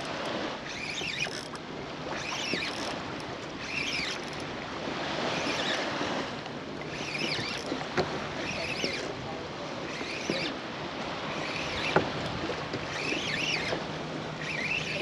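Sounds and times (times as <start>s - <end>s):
water around a kayak: 0.0s - 15.0s.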